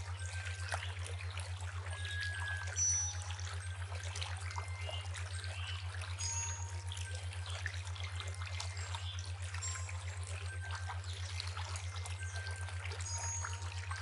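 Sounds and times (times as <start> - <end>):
pulsing low hum: 0.0 - 14.0
river water trickling: 0.0 - 14.0
water drips and splashes: 0.0 - 14.0.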